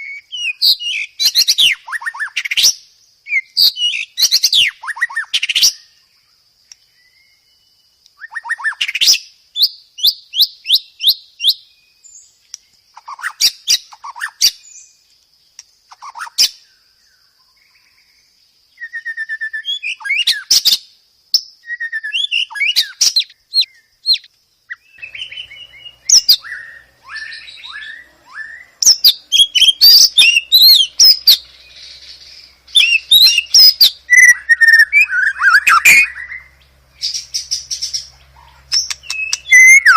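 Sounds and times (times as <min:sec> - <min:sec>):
bird singing whistled phrases: 0:00.0 - 0:06.1, 0:06.9 - 0:12.3, 0:18.7 - 0:39.9.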